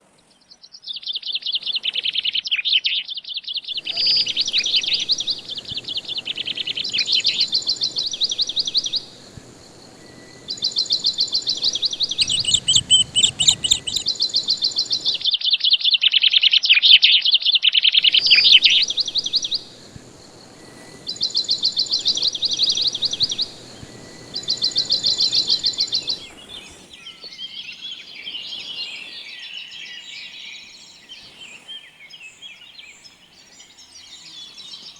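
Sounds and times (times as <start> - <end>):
small birds trilling: 0.5 - 34.9.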